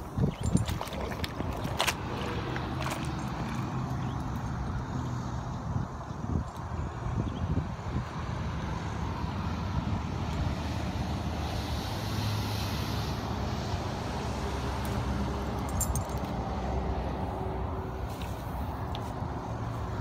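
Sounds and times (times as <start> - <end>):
low rumbling outdoor noise: 0.0 - 20.0.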